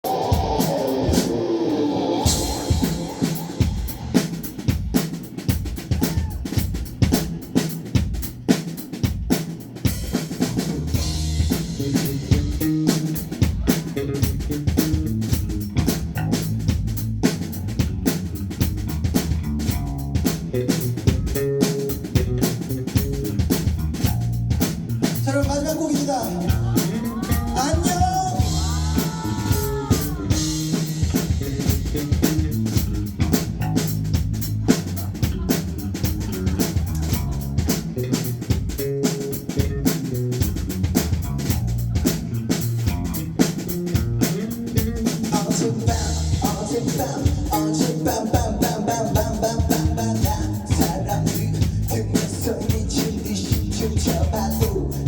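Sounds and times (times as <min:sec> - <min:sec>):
drum kit beat: 0:00.0 - 0:55.0
rock band playing: 0:00.0 - 0:55.0.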